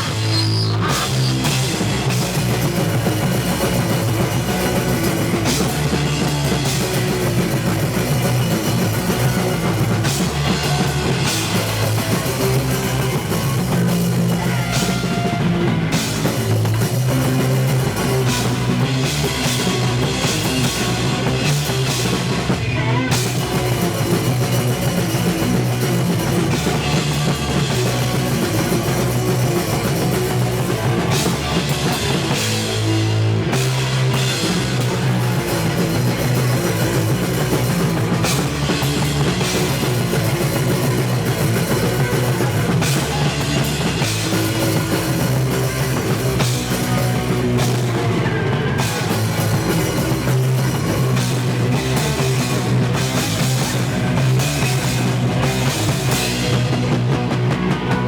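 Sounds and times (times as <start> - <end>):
distorted electric guitar: 0.0 - 58.0
pounding drum kit: 0.0 - 58.0
punk band playing live: 0.0 - 58.0.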